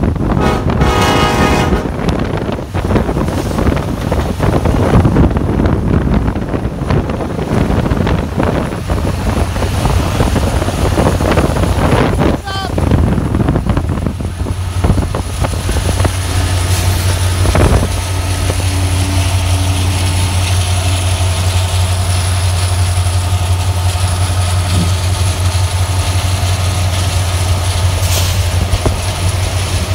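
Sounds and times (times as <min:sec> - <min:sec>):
diesel locomotive engine drone: 0:00.0 - 0:29.9
wind and road noise: 0:00.0 - 0:29.9.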